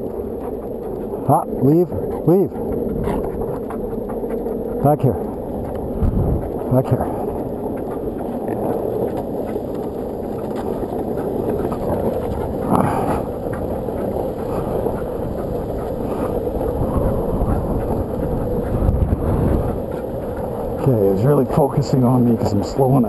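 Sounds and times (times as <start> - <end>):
longboard wheels rolling on asphalt: 0.0 - 23.0
wind on microphone: 0.0 - 23.0.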